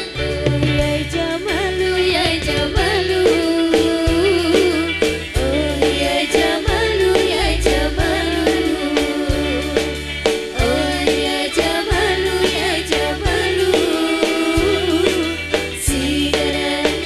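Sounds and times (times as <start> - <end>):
live band music: 0.0 - 17.0
woman singing: 0.0 - 17.0
drum strikes: 2.2 - 17.0.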